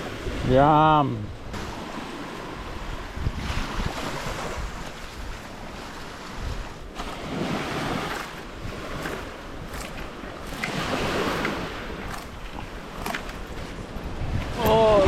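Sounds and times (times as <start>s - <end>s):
small waves washing ashore: 0.0s - 15.0s
wind gusting on microphone: 0.0s - 15.0s.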